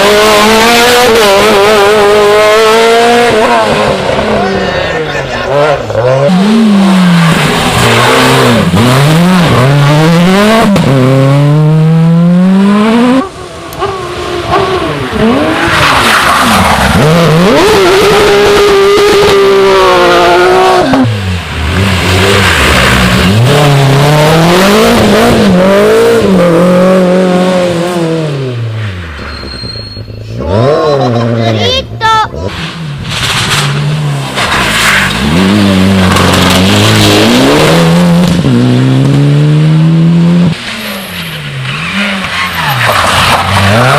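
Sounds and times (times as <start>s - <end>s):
rally car engine revving: 0.0s - 29.3s, 30.2s - 43.9s.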